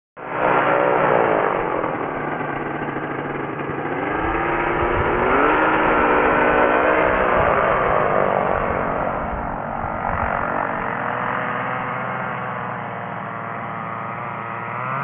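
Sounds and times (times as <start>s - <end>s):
light aircraft engine and propeller: 0.2s - 15.0s.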